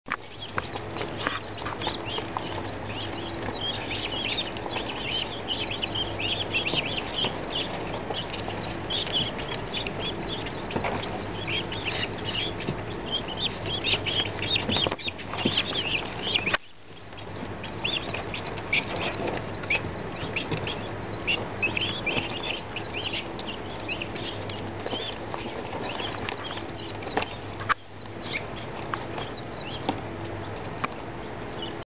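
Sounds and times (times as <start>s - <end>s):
chicks peeping: 0.1s - 31.8s.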